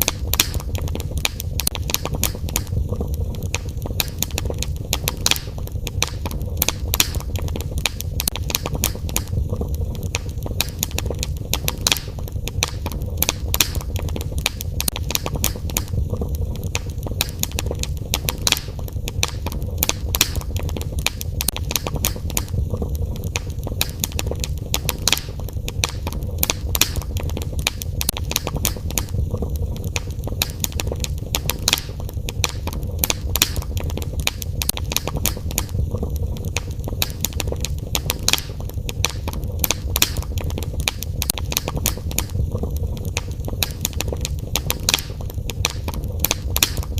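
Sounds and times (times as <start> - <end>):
fire crackling and popping: 0.0 - 46.9
low fire rumble: 0.0 - 46.9.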